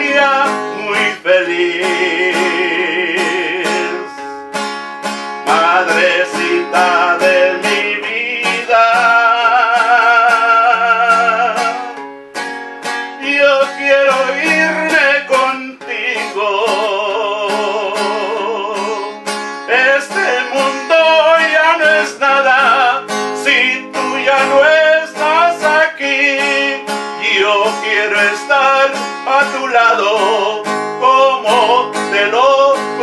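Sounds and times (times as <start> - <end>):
man singing a slow ballad: 0.0 - 4.5, 5.4 - 12.0, 13.2 - 33.0
strummed acoustic guitar: 0.0 - 33.0.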